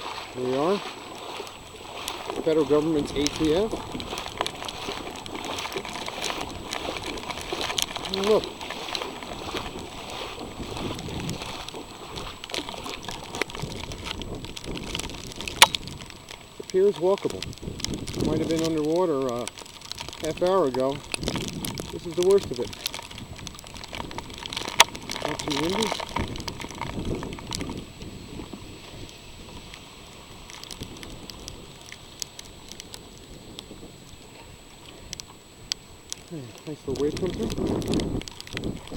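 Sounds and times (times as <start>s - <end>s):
floodwater sloshing and lapping: 0.0s - 38.9s
small water splashes: 0.0s - 38.9s.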